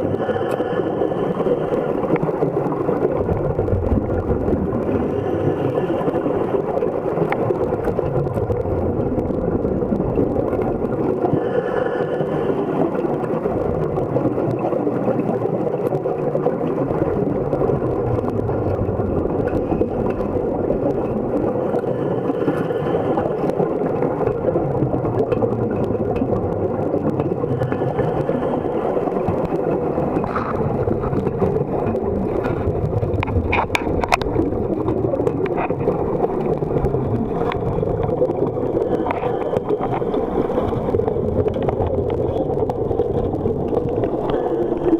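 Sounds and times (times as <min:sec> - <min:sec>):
bubbling from diver's helmet: 0:00.0 - 0:44.9
low underwater rumble: 0:00.0 - 0:44.9.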